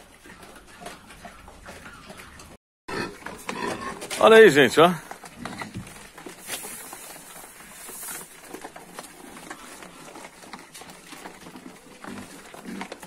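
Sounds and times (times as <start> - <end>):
piglets crunching corn: 0.0 - 13.0.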